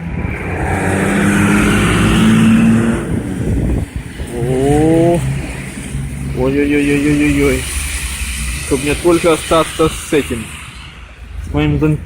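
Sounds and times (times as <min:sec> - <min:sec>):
engine accelerating: 0:00.0 - 0:12.0
vehicle engines running: 0:00.0 - 0:12.0.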